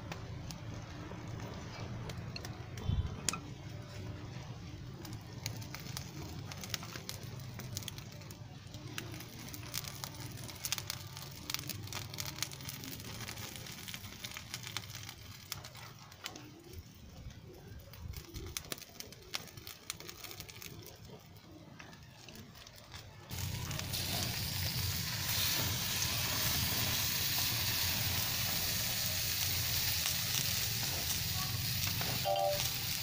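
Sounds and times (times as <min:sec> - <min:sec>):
wood fire crackling and popping: 0:00.0 - 0:33.0
steady sizzling hiss: 0:02.8 - 0:21.2, 0:23.3 - 0:33.0.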